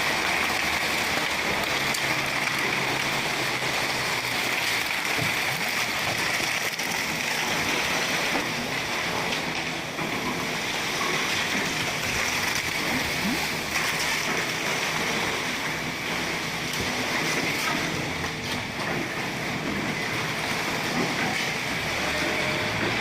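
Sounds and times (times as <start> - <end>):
concrete pump churning: 0.0 - 23.0.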